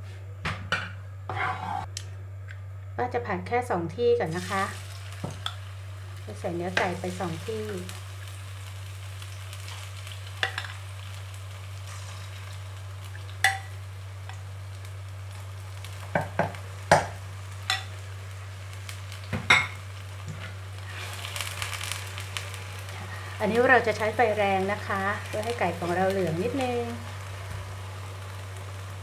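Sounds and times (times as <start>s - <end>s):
chicken sizzling in oil: 4.3s - 29.0s.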